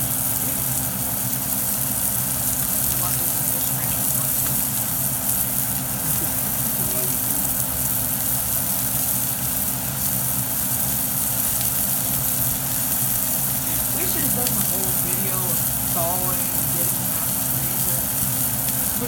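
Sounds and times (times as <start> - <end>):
constant low hum: 0.0 - 19.0
faint crackles: 0.0 - 19.0
fish sizzling in a pan: 0.0 - 19.0.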